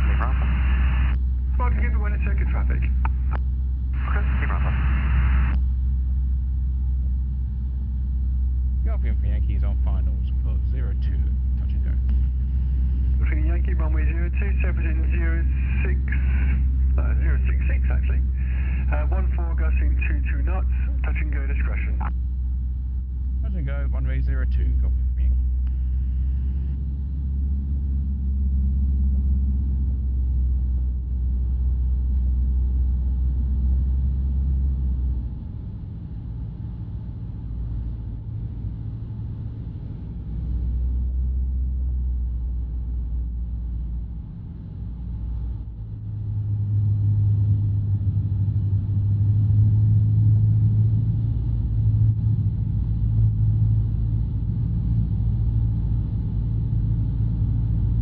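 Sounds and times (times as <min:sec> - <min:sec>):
aircraft engine and propeller drone: 0:00.0 - 0:58.0.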